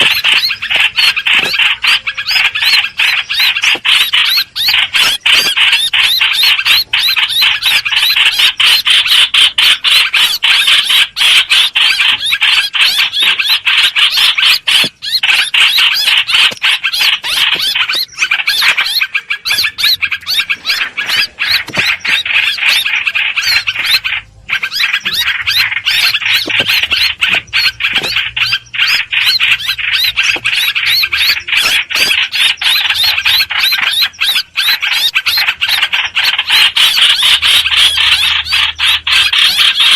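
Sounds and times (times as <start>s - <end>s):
bird calling with squealing notes: 0.0s - 39.9s.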